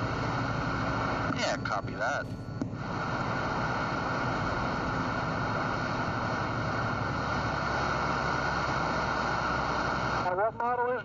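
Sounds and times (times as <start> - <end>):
radio channel hiss and rumble: 0.0 - 11.0.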